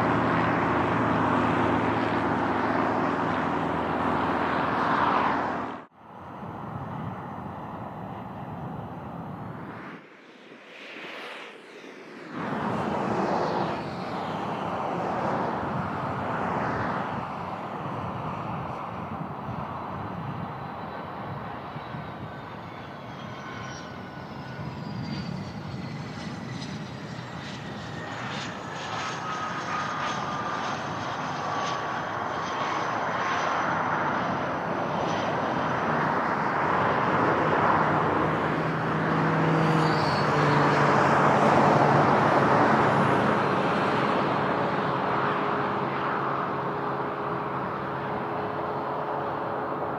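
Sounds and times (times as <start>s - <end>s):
aircraft engines rumbling: 0.0s - 49.9s.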